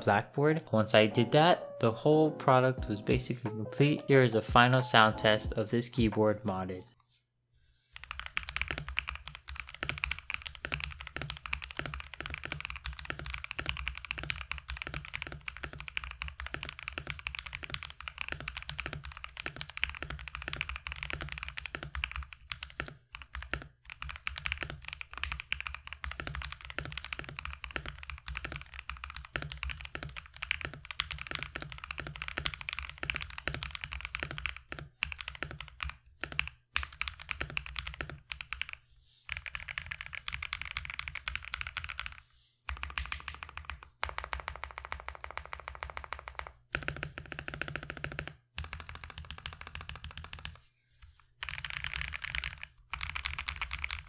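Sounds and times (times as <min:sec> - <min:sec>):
fast typing on mechanical keyboard: 0:07.9 - 0:50.6, 0:51.4 - 0:54.0.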